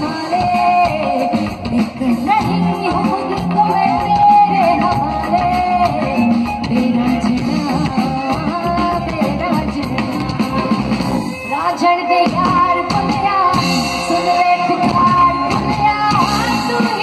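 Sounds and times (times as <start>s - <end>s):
drum kit: 0.0s - 17.0s
electric guitar: 0.0s - 17.0s
woman singing into microphone: 0.0s - 17.0s.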